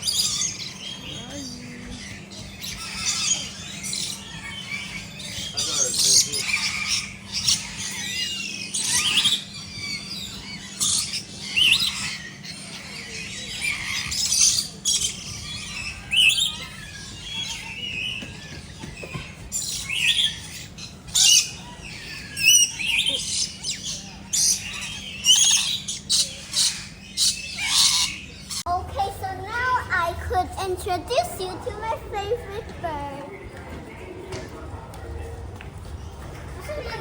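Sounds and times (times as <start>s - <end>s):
birds calling high-pitched: 0.0s - 37.0s.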